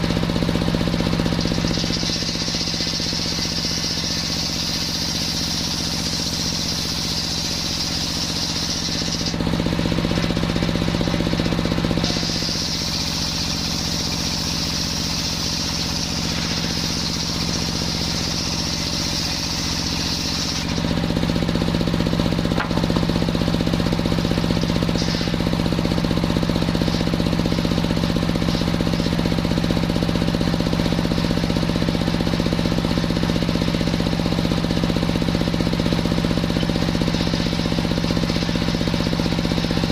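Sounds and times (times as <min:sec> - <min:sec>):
circular sawmill cutting wood: 0:00.0 - 0:39.9.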